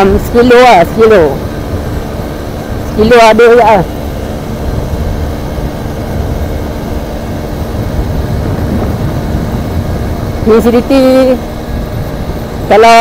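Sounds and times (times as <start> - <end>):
motorcycle engine hum: 0.0 - 13.0
wind rushing over microphone: 0.0 - 13.0.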